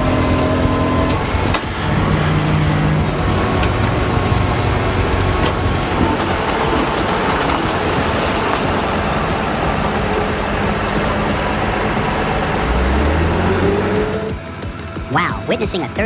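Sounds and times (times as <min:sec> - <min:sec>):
heavy vehicle engine rumble: 0:00.0 - 0:15.2.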